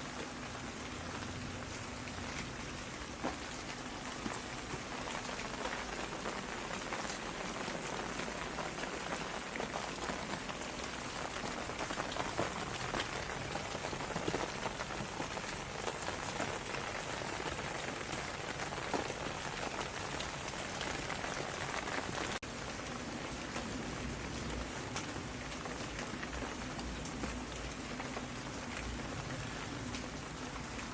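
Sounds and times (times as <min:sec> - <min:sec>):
rain falling: 0:00.0 - 0:30.9.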